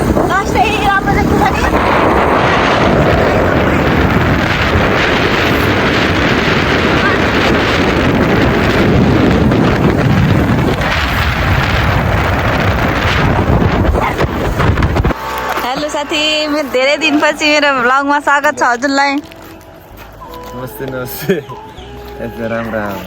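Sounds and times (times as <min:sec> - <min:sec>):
vehicle running noise: 0:00.0 - 0:22.9
wind buffeting microphone: 0:00.0 - 0:23.0.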